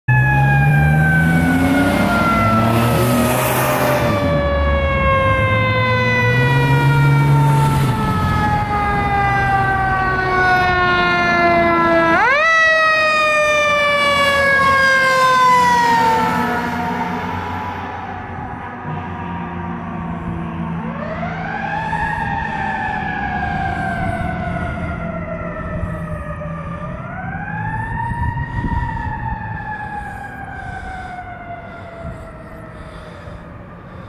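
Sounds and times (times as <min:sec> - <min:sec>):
mechanical siren wailing: 0:00.1 - 0:33.7.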